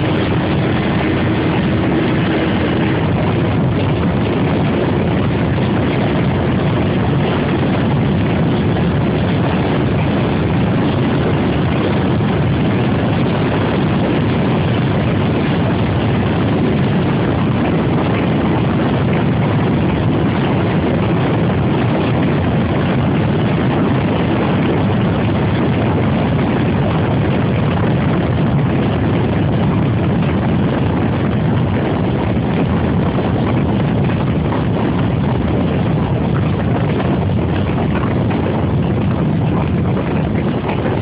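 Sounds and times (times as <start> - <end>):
motorcycle engine running hard: 0.0 - 41.0
wind rush on microphone: 0.0 - 41.0.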